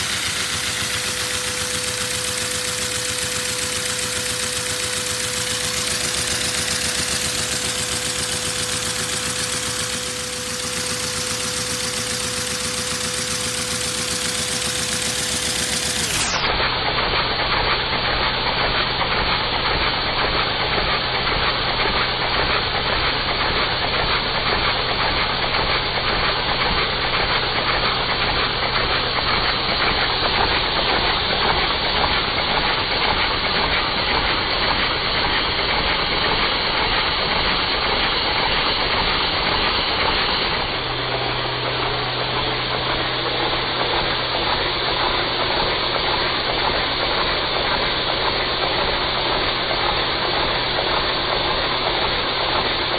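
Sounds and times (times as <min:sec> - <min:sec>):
air hissing through engine: 0:00.0 - 0:52.9.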